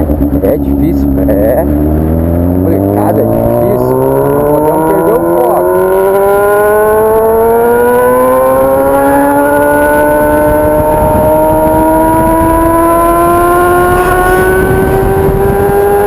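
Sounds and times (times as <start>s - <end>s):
motorcycle engine revving up: 0.0s - 16.0s.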